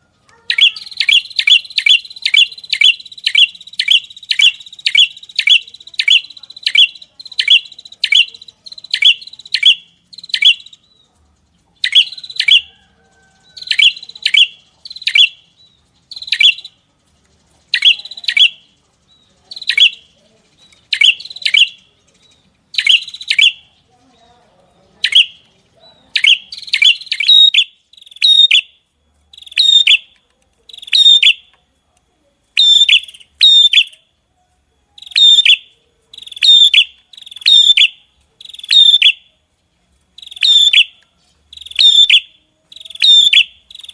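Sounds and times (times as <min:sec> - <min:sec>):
songbird chirping: 0:00.0 - 0:43.9.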